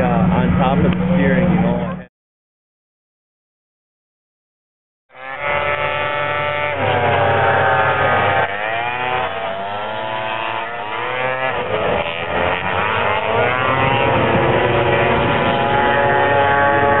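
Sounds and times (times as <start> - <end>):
snowmobile engines revving: 0.0 - 2.1, 5.1 - 17.0.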